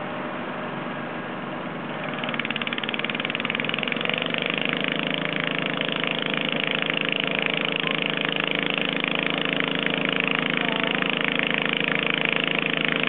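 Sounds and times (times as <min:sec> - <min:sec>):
garden tractor engine revving: 0:01.4 - 0:13.0.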